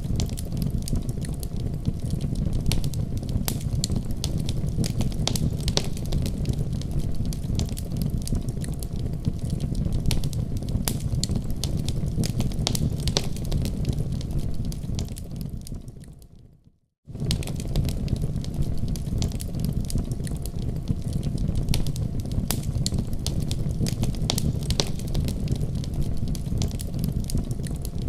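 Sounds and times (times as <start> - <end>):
wood fire crackling: 0.0 - 16.4, 17.1 - 28.0.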